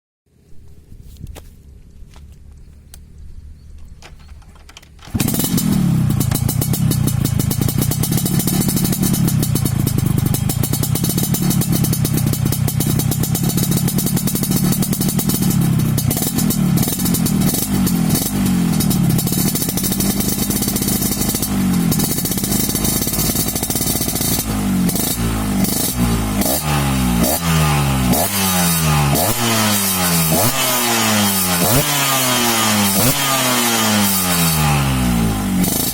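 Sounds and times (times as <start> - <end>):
motorcycle engine idling and revving: 2.1 - 35.9.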